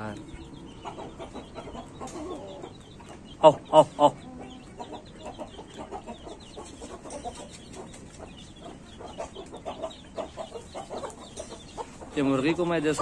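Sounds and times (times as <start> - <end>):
hens clucking softly: 0.0 - 13.0.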